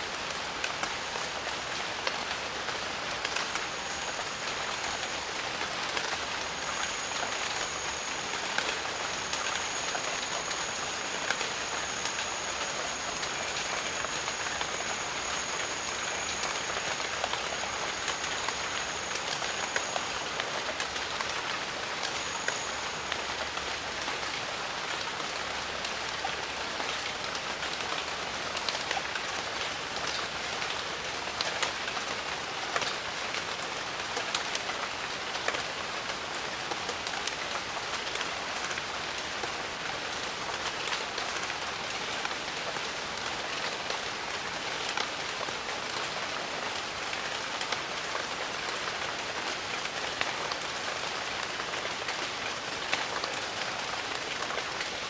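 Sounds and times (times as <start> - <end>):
rain falling on foliage: 0.0 - 55.0.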